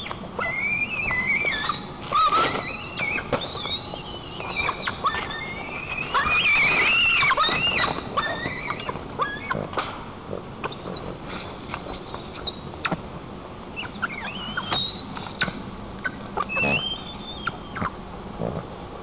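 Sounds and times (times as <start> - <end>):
eagle squealing: 0.0 - 10.0, 10.6 - 13.0, 13.7 - 18.0.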